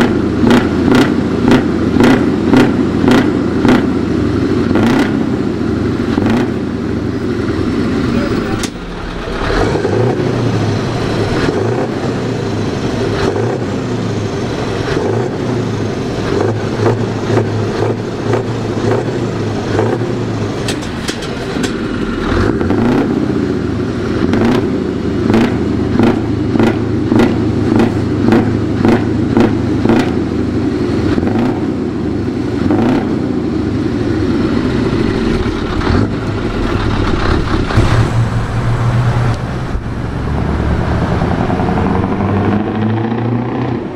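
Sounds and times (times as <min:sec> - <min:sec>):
diesel truck engine revving: 0:00.0 - 0:43.9.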